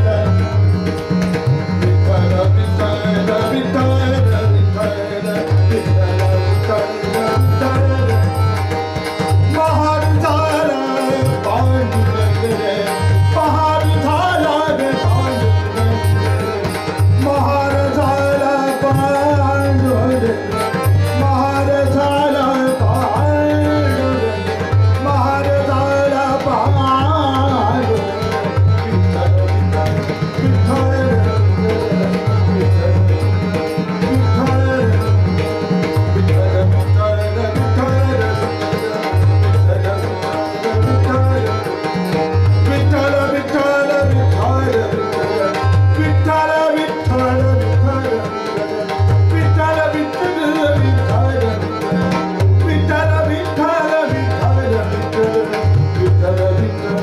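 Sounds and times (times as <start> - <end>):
man singing devotional song: 0.0 - 57.0
tabla: 0.0 - 57.0.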